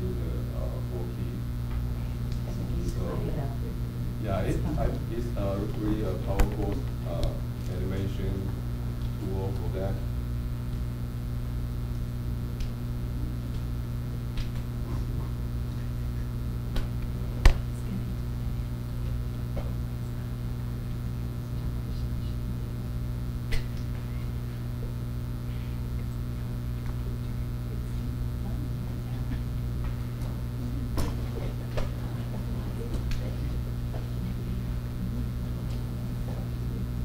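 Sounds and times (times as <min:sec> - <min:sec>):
low room hum: 0:00.0 - 0:37.0.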